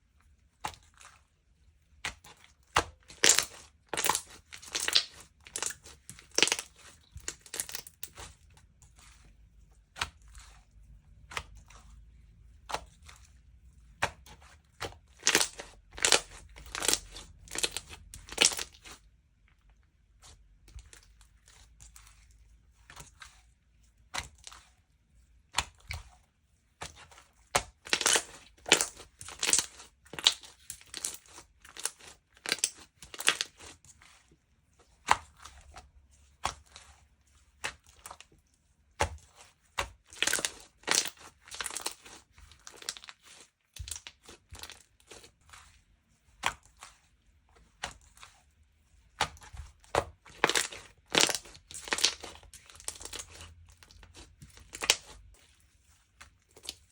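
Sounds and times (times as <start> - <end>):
slime squished by hand: 1.8 - 9.2, 9.8 - 23.4, 26.8 - 34.2, 34.9 - 56.9.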